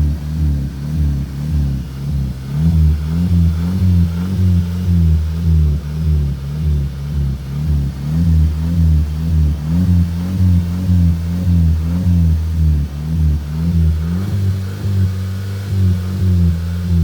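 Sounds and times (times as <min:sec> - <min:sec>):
car engine revving in quick blips: 0:00.0 - 0:17.0.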